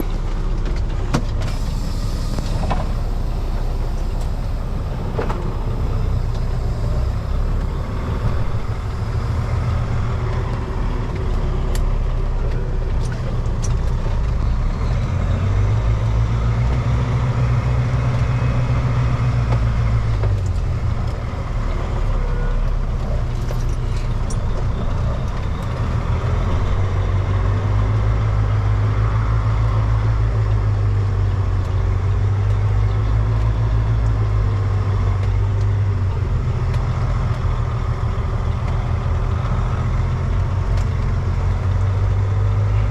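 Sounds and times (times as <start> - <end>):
diesel truck engine drone: 0.0 - 42.9.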